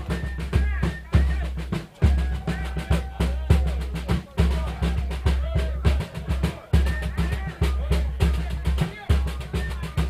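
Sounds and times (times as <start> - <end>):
bass drum pounding: 0.0 - 10.0
snare drumming and rolls: 0.0 - 10.0.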